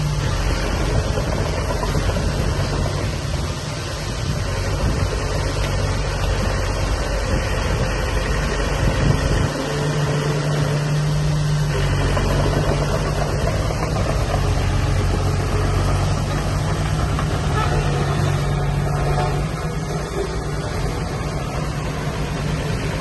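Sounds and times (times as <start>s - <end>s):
heavy machine diesel engine: 0.0s - 23.0s.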